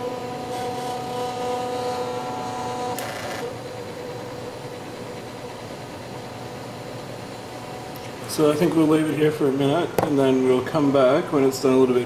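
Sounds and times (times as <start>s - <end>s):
steady mechanical whir: 0.0s - 12.0s.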